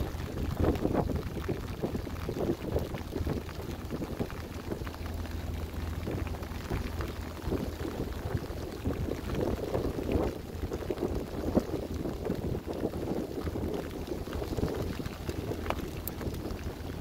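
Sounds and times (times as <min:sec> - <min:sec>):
low rumble: 0:00.0 - 0:17.0
water splashing against a hull: 0:00.0 - 0:17.0.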